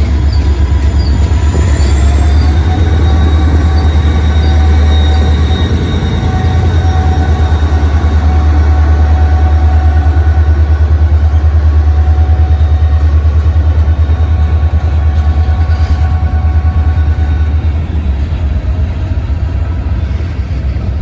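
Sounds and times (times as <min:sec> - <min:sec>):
locomotive engine rumbling: 0:00.0 - 0:21.0
steady whining tones: 0:00.1 - 0:19.9.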